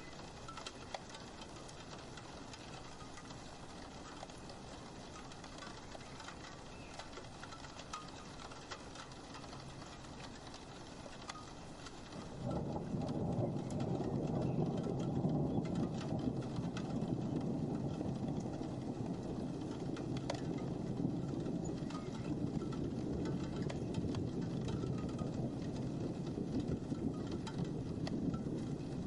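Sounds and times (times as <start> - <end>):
rain pattering on window glass: 0.0 - 29.0.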